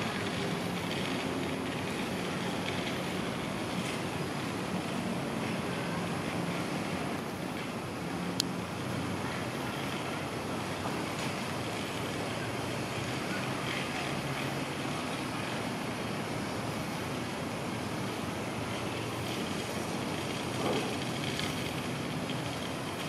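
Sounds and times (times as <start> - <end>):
distant city traffic: 0.0 - 23.0.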